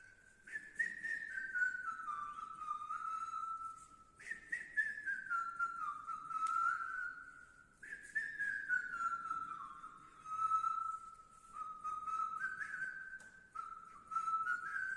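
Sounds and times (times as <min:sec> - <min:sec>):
man whistling a melody: 0:00.0 - 0:14.9.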